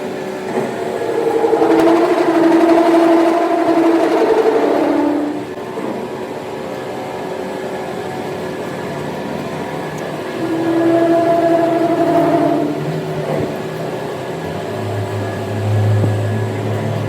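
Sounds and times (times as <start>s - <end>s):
machinery humming: 0.0s - 17.0s
pitched machine whine: 0.0s - 17.0s.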